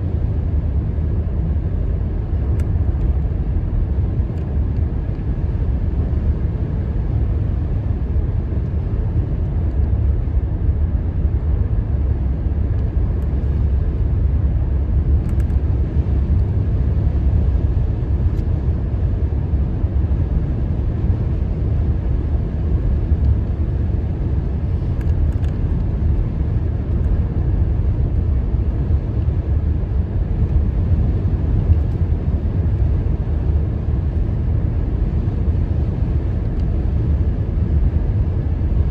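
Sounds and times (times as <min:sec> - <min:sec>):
truck road and engine rumble: 0:00.0 - 0:38.9.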